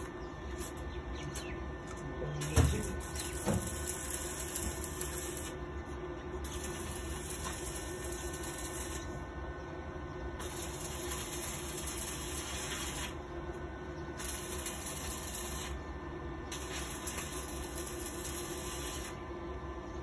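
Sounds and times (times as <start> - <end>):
arc welding crackling and hissing: 0.0 - 9.4, 10.4 - 19.4.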